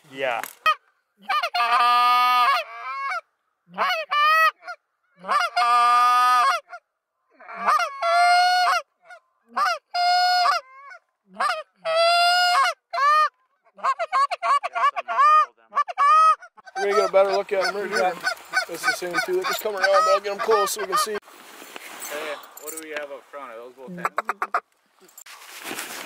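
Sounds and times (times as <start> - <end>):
geese honking: 0.6 - 21.2, 24.0 - 24.7.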